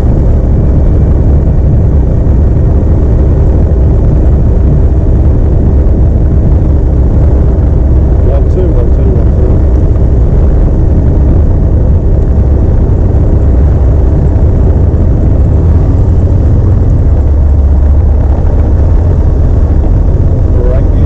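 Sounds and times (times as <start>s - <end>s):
aircraft engine and propeller drone: 0.0s - 21.0s.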